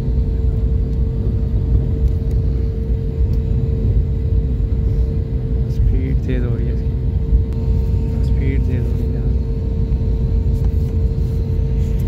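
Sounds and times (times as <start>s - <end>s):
airliner engines rumbling: 0.0s - 12.0s
mid-pitched hum: 0.0s - 12.0s.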